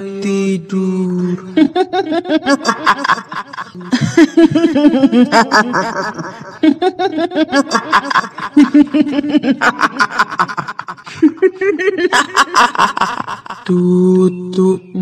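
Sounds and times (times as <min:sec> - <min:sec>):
woman's high-pitched cackling laugh: 0:01.6 - 0:13.7.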